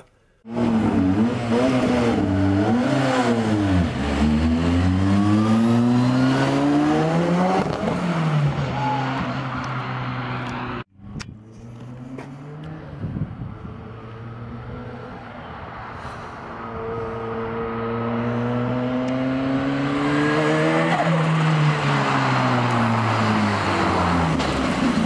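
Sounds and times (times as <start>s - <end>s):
race car engine accelerating past: 0.5s - 15.3s, 16.6s - 25.0s.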